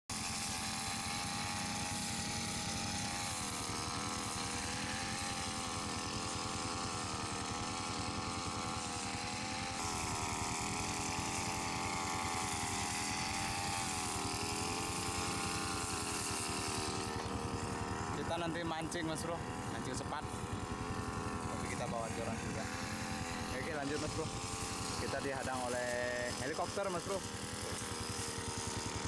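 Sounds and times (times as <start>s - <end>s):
brush cutter engine running: 0.1s - 29.0s.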